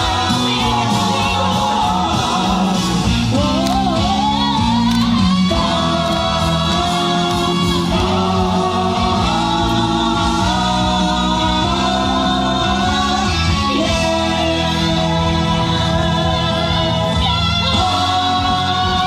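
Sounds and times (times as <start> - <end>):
loud music with bass notes: 0.0 - 19.0
person singing: 0.0 - 19.0.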